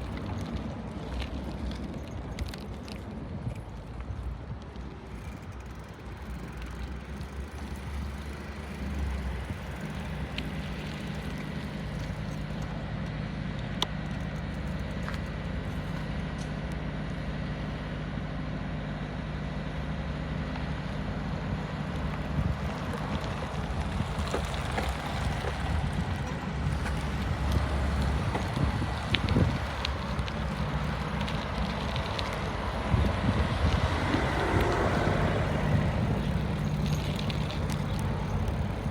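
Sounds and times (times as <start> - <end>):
bicycle rolling noise: 0.0 - 18.2, 19.8 - 38.9.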